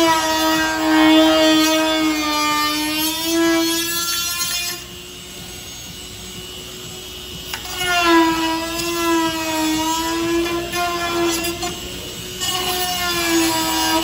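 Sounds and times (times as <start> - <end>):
rotary tool whining as it grinds: 0.0 - 14.0.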